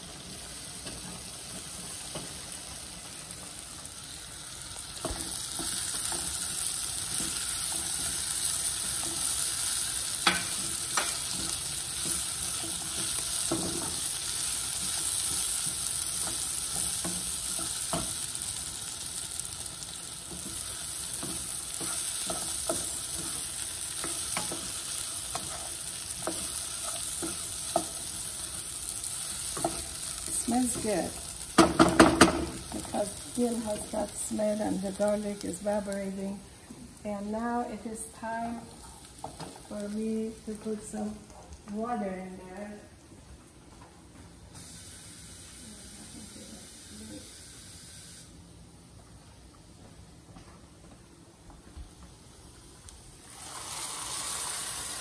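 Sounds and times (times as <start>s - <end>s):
food sizzling in hot oil: 0.0s - 42.6s, 44.5s - 48.5s, 52.4s - 55.0s.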